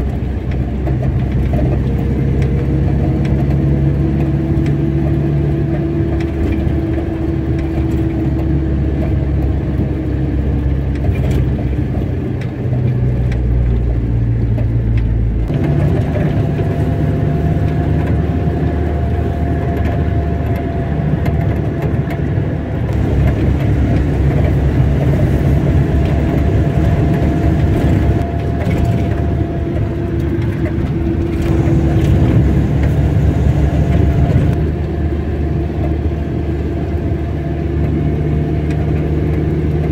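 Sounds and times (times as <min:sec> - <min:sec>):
car engine running: 0:00.0 - 0:39.9
road rumble: 0:00.0 - 0:39.9.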